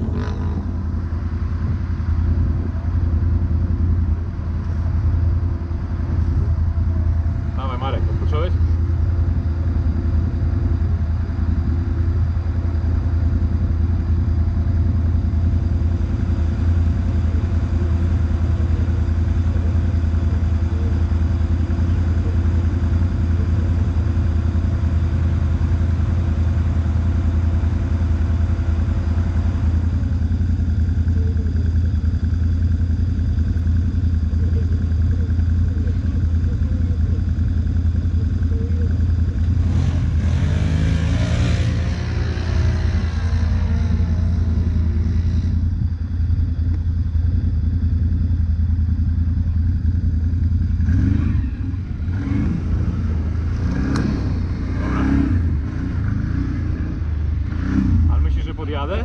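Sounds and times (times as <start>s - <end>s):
quad bike engine idling: 0.0s - 59.0s.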